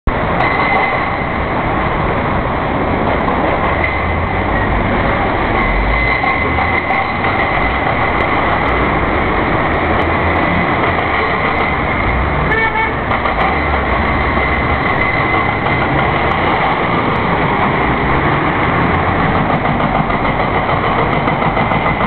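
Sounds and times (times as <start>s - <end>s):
vehicle engine and road noise: 0.1s - 22.0s.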